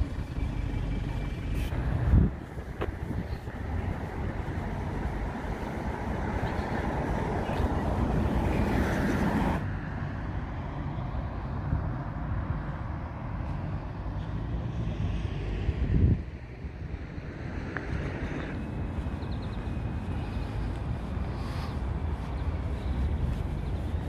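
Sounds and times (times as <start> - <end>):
traffic noise: 0.0 - 24.0
vehicle passing close: 0.0 - 24.0
wind rumbling on microphone: 0.0 - 24.0.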